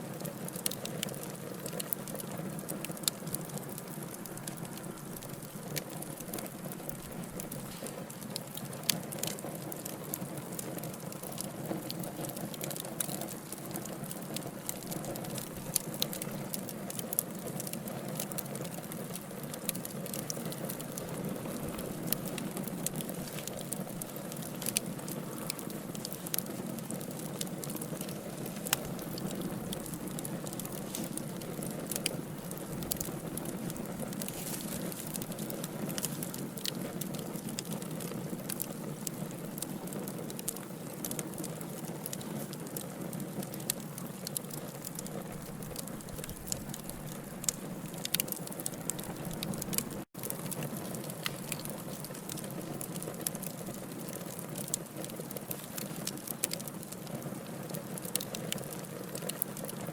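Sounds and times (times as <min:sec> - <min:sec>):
logs crackling and popping: 0:00.0 - 0:59.9
wood fire burning: 0:00.0 - 0:59.9.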